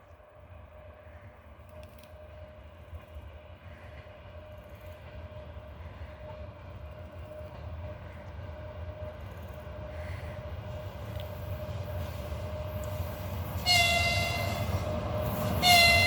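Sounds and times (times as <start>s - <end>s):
electric locomotive rumbling: 0.0s - 16.0s.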